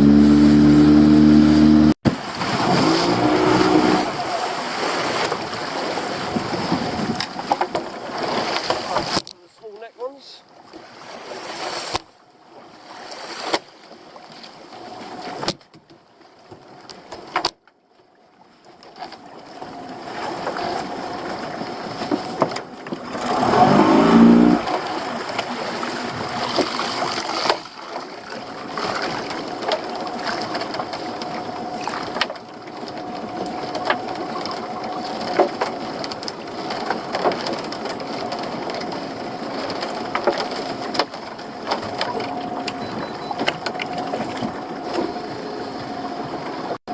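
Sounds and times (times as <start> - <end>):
boat motor humming: 0.0 - 11.3, 14.0 - 17.4, 18.0 - 46.9.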